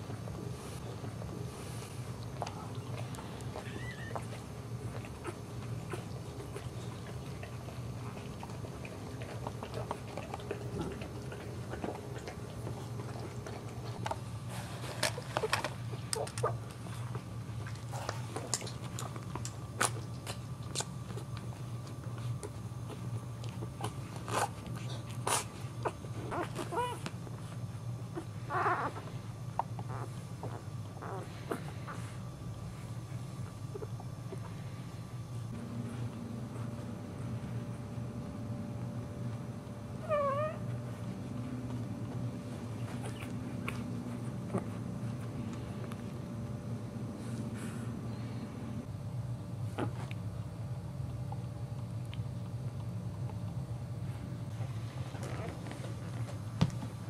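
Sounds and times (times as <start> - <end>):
puppies suckling: 0.0 - 48.9, 49.6 - 56.4
low hum: 0.0 - 57.0.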